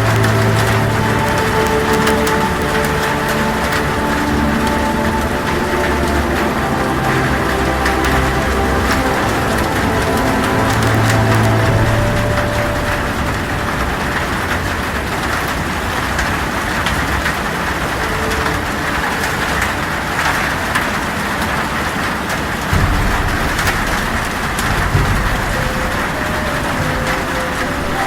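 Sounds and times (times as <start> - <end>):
heavy rain on a tin roof: 0.0 - 28.0
low rumbles: 0.0 - 28.0.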